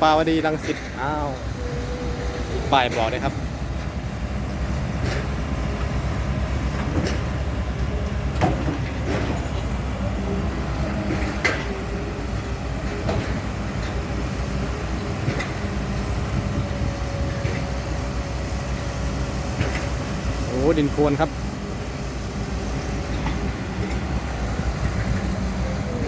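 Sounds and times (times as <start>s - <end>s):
diesel machinery rumbling: 0.0s - 26.0s.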